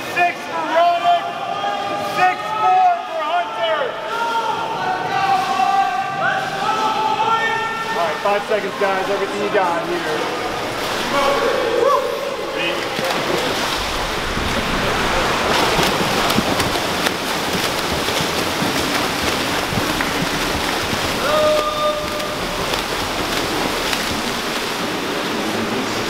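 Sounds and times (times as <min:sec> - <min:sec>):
water splashing from swimming strokes: 0:00.0 - 0:26.0.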